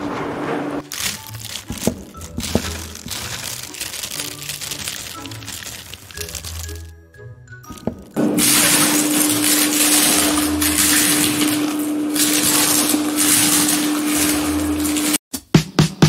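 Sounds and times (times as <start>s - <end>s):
chips crunching underfoot: 0.8s - 7.0s, 7.7s - 15.2s.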